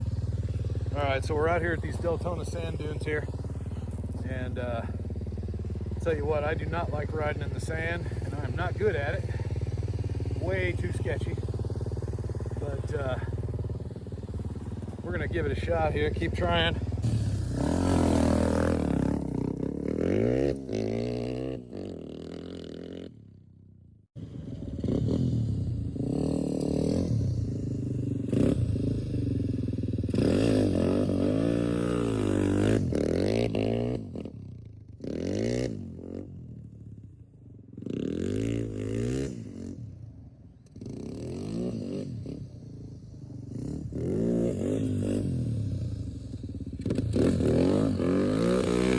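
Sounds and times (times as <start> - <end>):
off-road vehicle engine revving: 0.0 - 23.1, 24.2 - 34.3, 35.0 - 36.3, 40.8 - 42.6, 43.5 - 46.1, 46.7 - 48.9.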